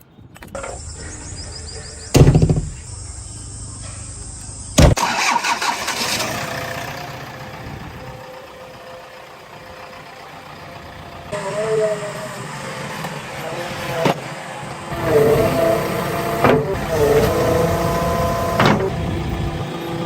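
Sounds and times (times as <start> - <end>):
diesel engine starting and running: 0.4 - 20.0.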